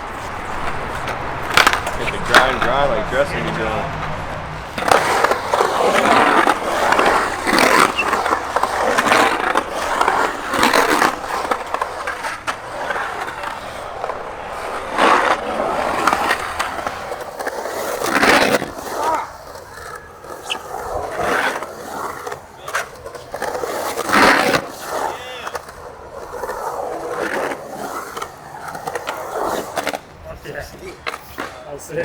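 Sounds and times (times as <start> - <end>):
skateboard scraping and clacking: 0.0 - 32.0
skateboard wheels rolling on concrete: 0.0 - 32.0.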